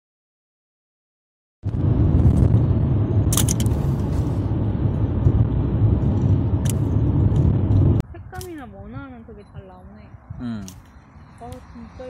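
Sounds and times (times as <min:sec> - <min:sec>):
car engine and tyres rumbling: 0:01.6 - 0:12.0.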